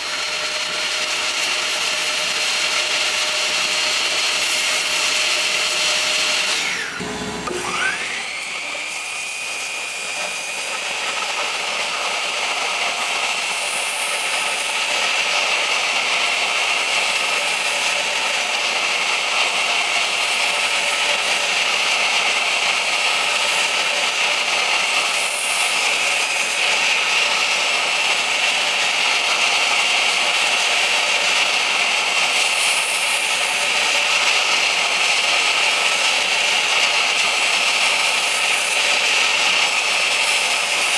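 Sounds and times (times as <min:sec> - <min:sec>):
hiss of wood being cut: 0:00.0 - 0:40.9
power saw whining: 0:00.0 - 0:40.9.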